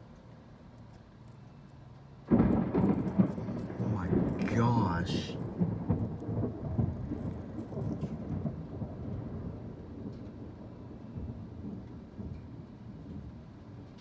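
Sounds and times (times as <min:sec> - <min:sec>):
thunder rumbling: 0:02.3 - 0:14.0.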